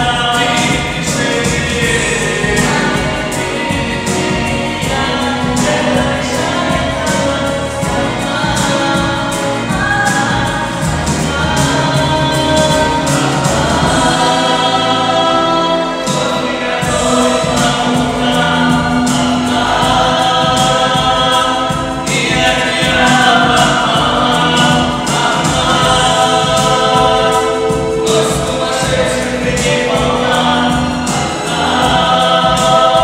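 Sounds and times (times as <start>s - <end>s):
singing over backing track: 0.0s - 33.0s.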